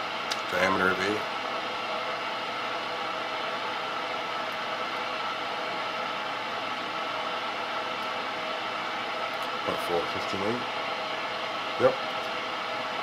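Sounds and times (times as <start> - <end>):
machinery hum and hiss: 0.0 - 13.0.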